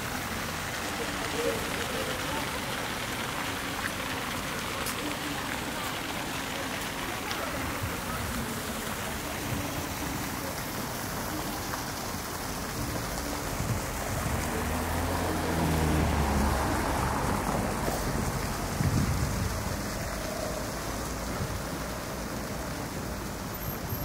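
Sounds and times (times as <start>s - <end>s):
steady watery hiss: 0.0s - 24.0s
vehicle engine hum: 0.0s - 24.0s.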